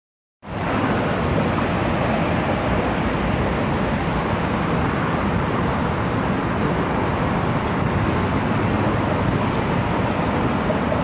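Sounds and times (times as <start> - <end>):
highway traffic: 0.4 - 11.0.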